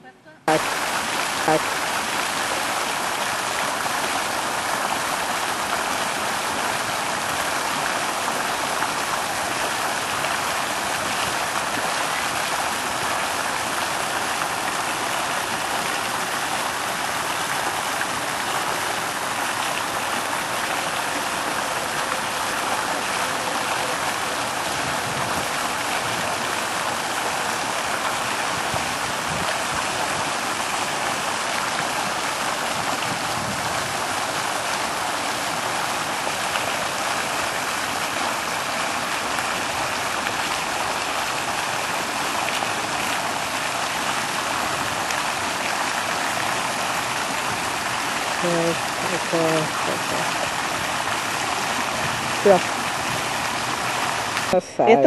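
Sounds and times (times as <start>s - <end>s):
fountain water splashing into pool: 0.5s - 54.6s.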